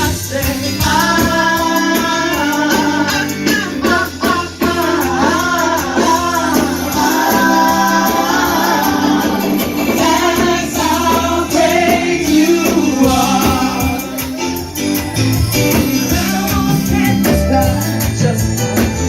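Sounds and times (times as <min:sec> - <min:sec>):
group of singers: 0:00.0 - 0:19.0
tambourine beat: 0:00.0 - 0:19.0
worship band playing: 0:00.0 - 0:19.0.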